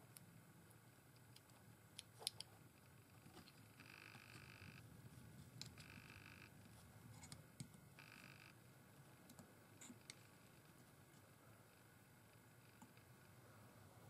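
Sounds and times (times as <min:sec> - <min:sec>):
faint buzzing tones: 0:00.0 - 0:14.0.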